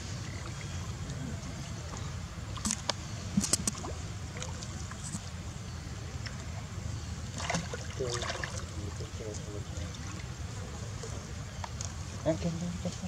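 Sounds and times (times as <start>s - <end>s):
water splashes and rustles: 0.0s - 13.0s.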